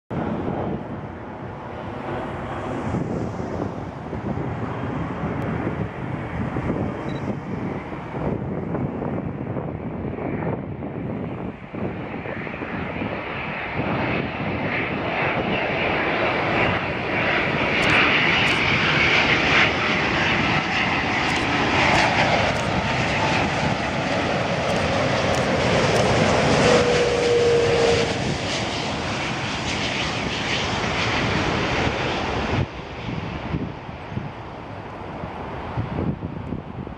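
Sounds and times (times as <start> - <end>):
jet airliner passing low: 0.1 - 36.9.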